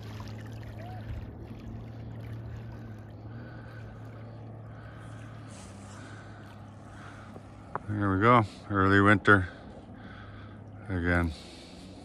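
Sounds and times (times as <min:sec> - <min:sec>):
boat motor humming: 0:00.0 - 0:12.0
water noise: 0:00.0 - 0:12.0.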